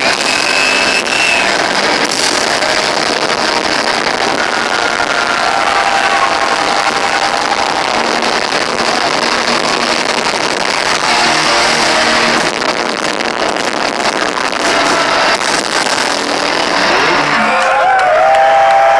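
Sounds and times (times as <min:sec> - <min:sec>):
heavy rock band playing: 0:00.0 - 0:18.0.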